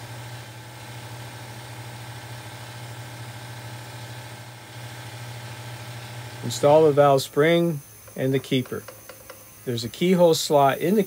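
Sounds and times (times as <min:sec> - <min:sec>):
air compressor humming: 0:00.0 - 0:11.0.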